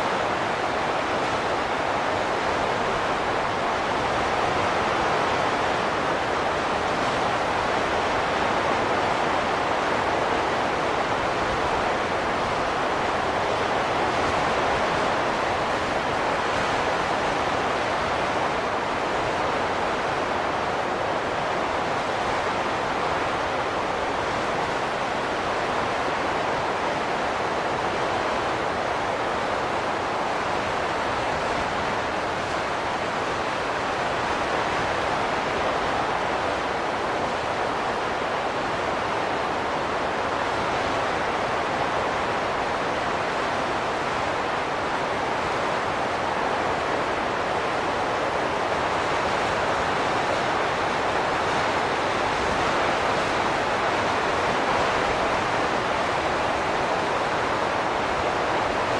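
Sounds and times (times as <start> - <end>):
rushing wind: 0.0 - 58.9.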